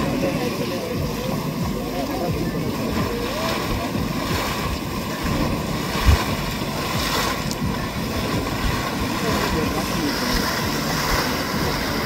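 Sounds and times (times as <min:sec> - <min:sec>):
hot spring water churning: 0:00.0 - 0:12.0.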